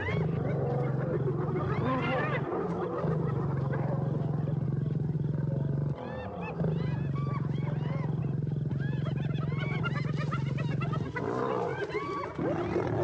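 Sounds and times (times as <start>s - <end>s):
hyenas giggling and yelping: 0.0s - 13.0s
lions growling: 0.0s - 13.0s.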